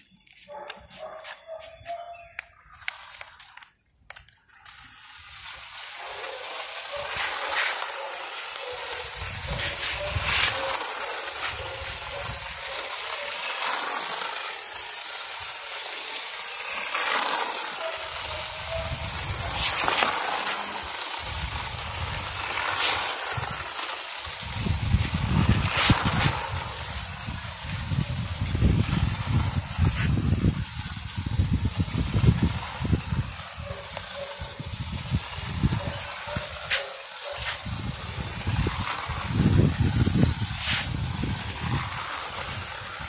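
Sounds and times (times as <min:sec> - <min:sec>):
toy car motor hiss: 0:00.1 - 0:43.0.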